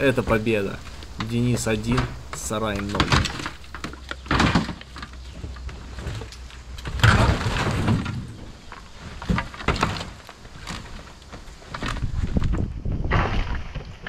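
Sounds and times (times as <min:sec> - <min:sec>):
wood clattering: 0:00.0 - 0:14.0
wooden boards knocking and creaking: 0:00.0 - 0:14.0.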